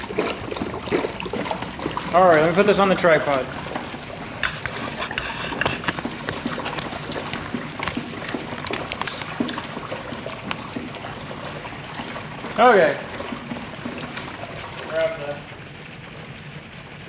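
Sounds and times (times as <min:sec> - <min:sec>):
gas bubbling into water: 0:00.0 - 0:17.0.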